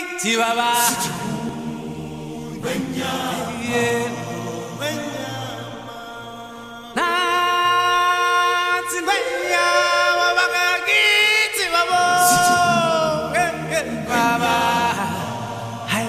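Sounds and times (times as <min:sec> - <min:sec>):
deeper voices singing: 0:00.0 - 0:16.0
voices chanting a cappella: 0:00.0 - 0:16.0.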